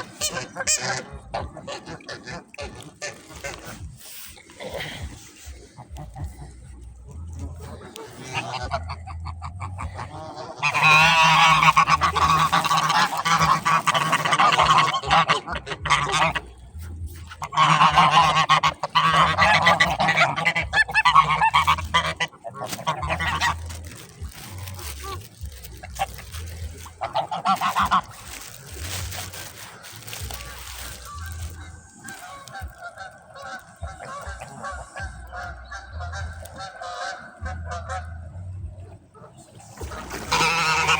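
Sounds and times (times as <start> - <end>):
geese honking: 0.0 - 40.9.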